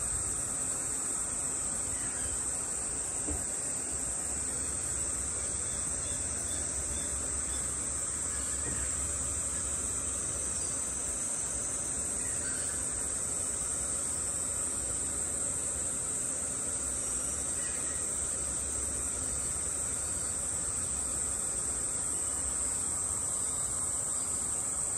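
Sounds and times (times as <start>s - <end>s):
high-pitched insect-like whine: 0.0s - 24.9s.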